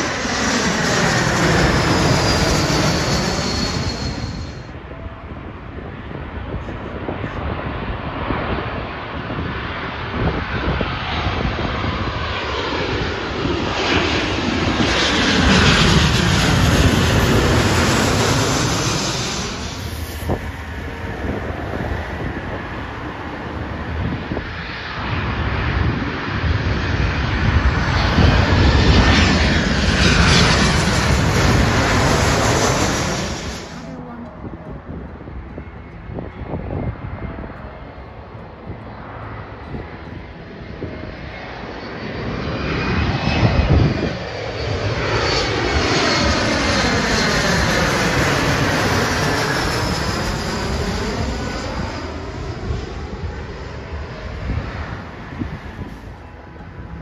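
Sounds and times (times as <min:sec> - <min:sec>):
jet airliners flying overhead: 0:00.0 - 0:57.0.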